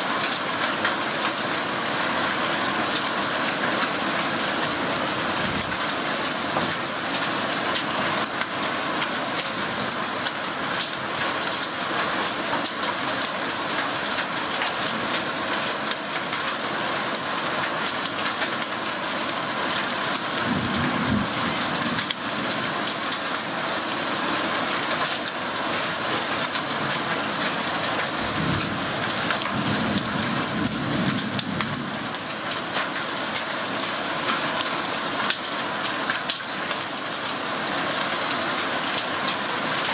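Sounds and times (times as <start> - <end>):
rain and hail pelting: 0.0 - 39.9.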